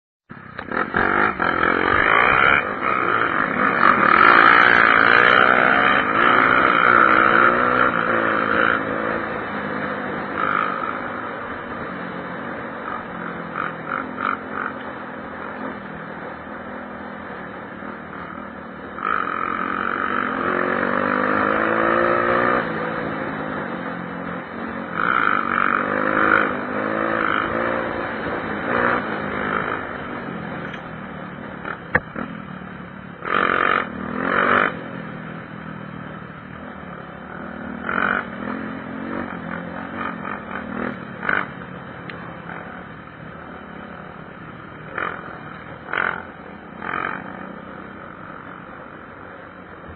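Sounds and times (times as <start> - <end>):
motorcycle engine idling and revving: 0.2 - 49.9.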